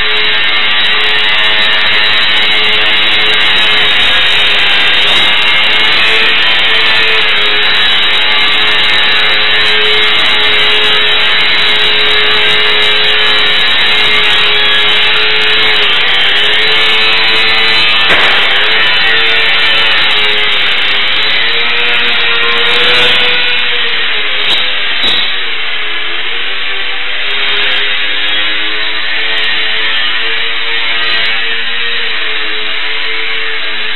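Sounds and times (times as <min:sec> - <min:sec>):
model plane motor buzzing: 0:00.0 - 0:33.9.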